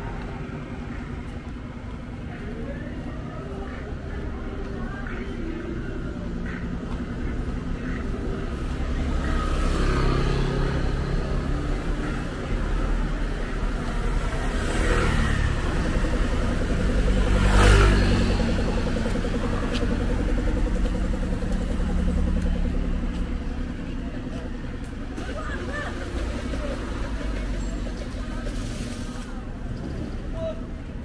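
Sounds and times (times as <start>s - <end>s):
cars driving past: 6.1s - 31.0s.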